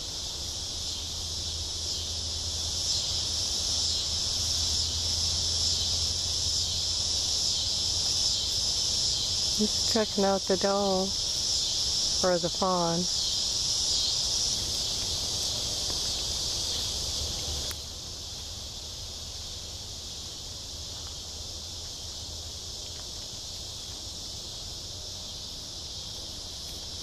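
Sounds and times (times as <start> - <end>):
crickets and insects chirping: 0.0 - 27.0.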